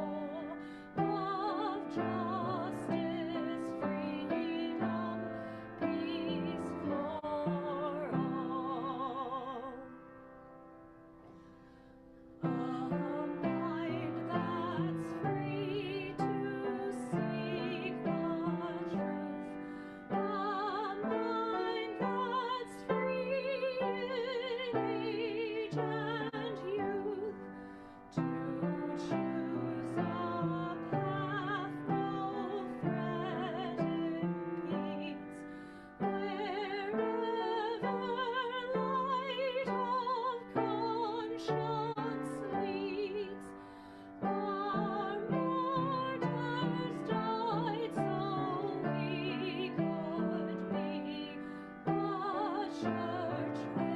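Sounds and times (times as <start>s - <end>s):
person singing with vibrato: 0.0s - 10.0s, 12.4s - 53.9s
piano accompaniment: 0.0s - 53.9s.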